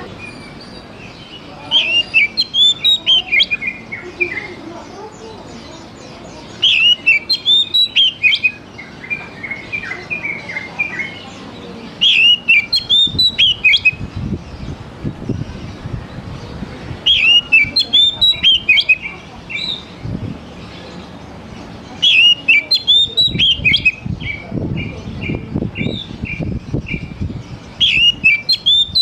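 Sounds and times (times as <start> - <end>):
bird singing whistled notes: 0.2 - 20.0, 22.0 - 29.0.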